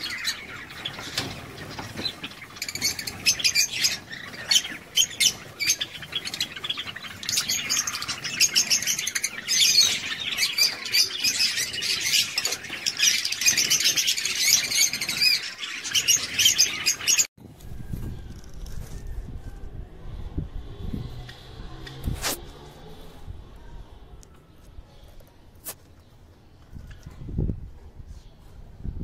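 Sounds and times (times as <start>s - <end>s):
sparrows chirping and twittering: 0.0s - 29.0s.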